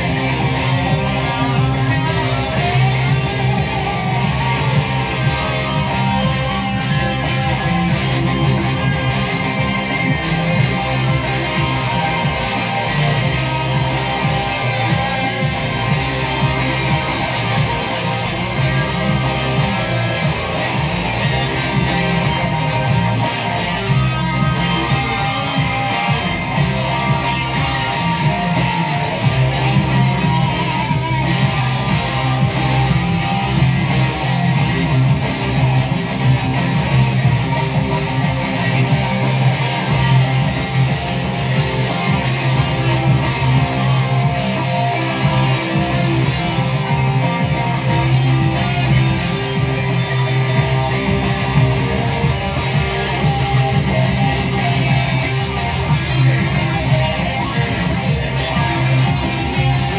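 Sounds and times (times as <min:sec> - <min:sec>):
electric guitar playing: 0:00.0 - 0:59.9.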